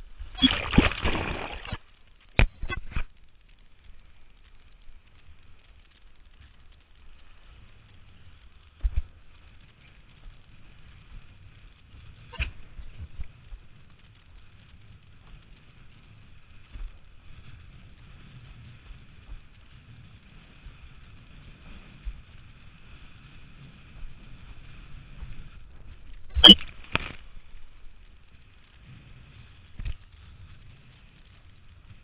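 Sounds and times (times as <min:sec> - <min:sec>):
wind and water rumble: 0:00.0 - 0:32.0.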